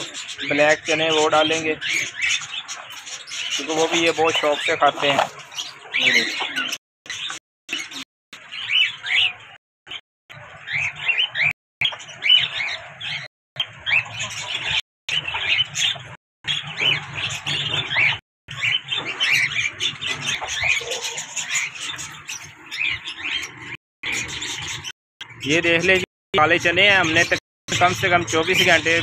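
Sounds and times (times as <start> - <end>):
cockatiels chirping and squawking: 0.0 - 26.0, 26.6 - 29.0.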